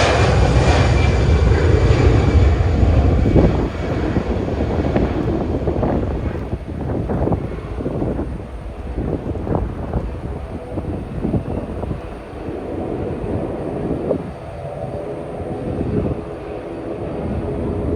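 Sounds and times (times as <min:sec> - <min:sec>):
aircraft engine rumble: 0:00.0 - 0:17.9
faint steady engine tones: 0:00.0 - 0:17.9
wind buffeting microphone: 0:00.0 - 0:17.9.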